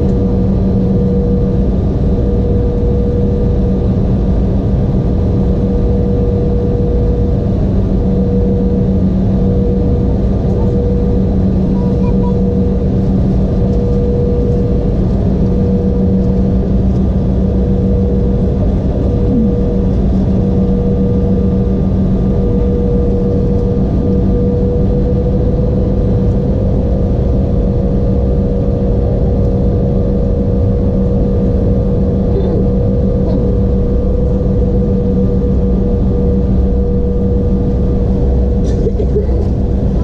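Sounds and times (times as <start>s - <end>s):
jet engine cabin rumble: 0.0s - 40.0s
low hum: 0.0s - 40.0s
mid-range hum: 0.0s - 40.0s.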